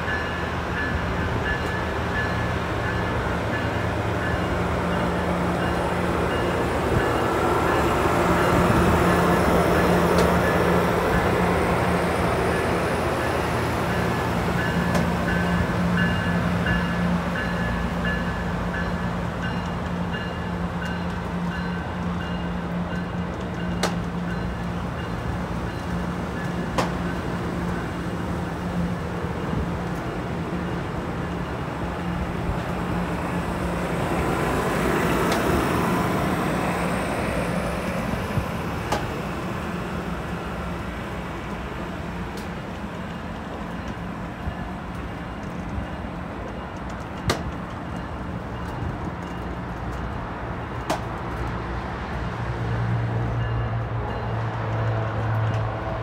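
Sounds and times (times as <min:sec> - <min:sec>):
train cars rumbling past: 0:00.0 - 0:56.0.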